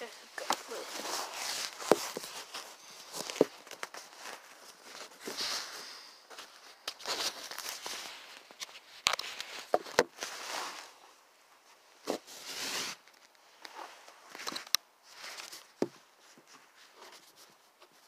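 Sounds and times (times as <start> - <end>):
cloth rustling on microphone: 0.0 - 18.0.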